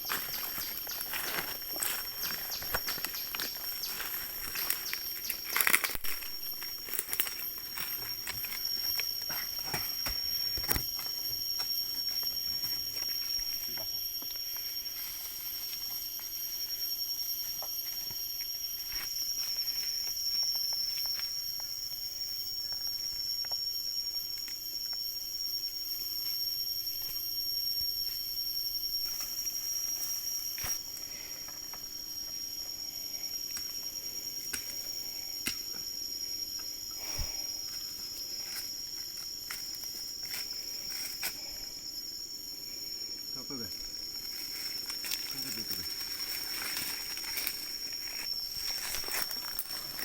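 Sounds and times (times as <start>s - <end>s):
insect chorus: 0.0s - 50.0s.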